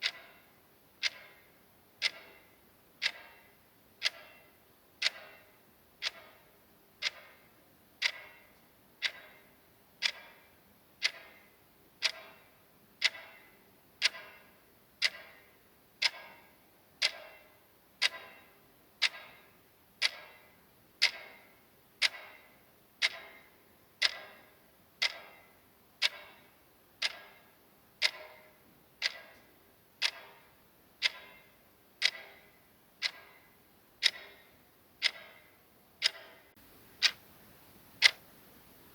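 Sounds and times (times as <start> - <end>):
clock ticking: 0.0 - 38.8.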